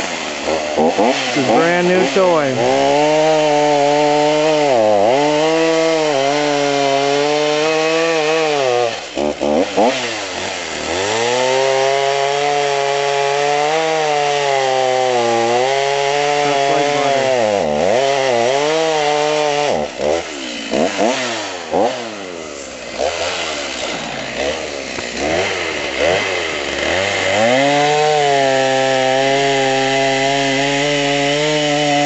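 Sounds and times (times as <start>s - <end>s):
chainsaw cutting wood: 0.0s - 32.0s
chainsaw revving: 0.0s - 32.0s.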